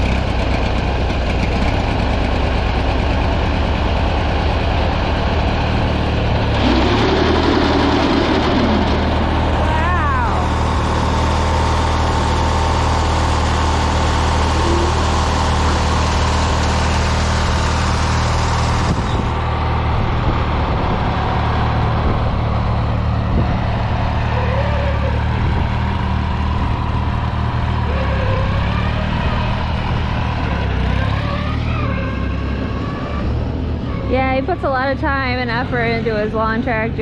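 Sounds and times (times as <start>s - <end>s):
lawn tractor engine running: 0.0s - 31.8s.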